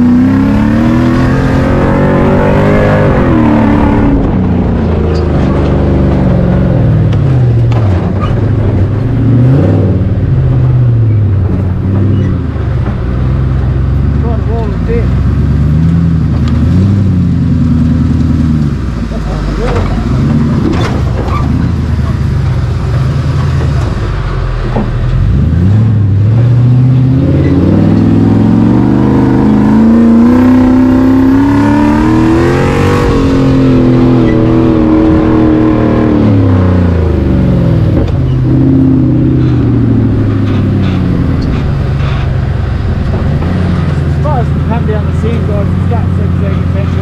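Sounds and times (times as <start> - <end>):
buggy engine revving: 0.0 - 47.0.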